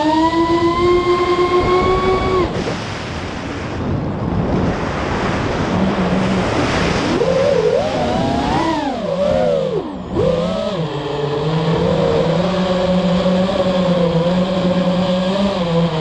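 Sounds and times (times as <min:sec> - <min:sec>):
drone motors whining: 0:00.0 - 0:02.8, 0:04.9 - 0:16.0
wind noise rushing: 0:00.4 - 0:14.1.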